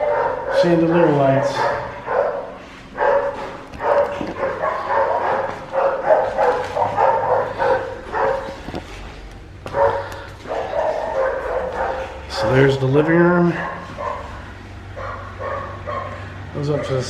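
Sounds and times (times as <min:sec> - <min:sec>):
dog barking high-pitched: 0:00.0 - 0:08.7, 0:09.7 - 0:17.0.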